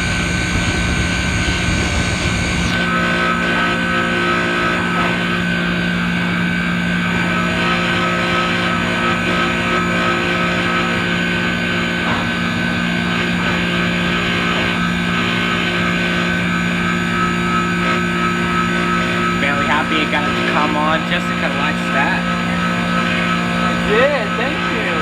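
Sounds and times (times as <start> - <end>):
ice machine humming: 0.0 - 25.0
steady higher tone: 0.0 - 25.0.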